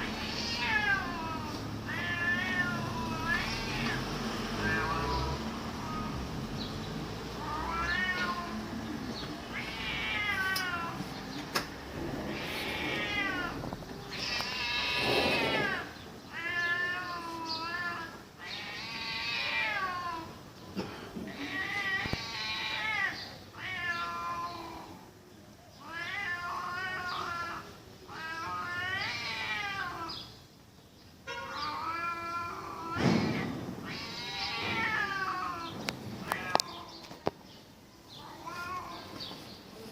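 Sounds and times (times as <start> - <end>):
cats yowling in a fight: 0.0 - 6.2, 7.4 - 11.2, 12.0 - 20.4, 21.3 - 25.1, 25.8 - 30.3, 31.3 - 37.0.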